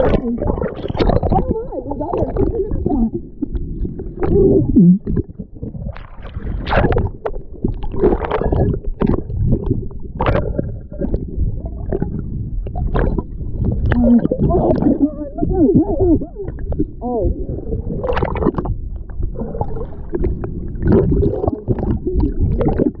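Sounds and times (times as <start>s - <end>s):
underwater surf rumbling and gurgling: 0.0s - 23.0s.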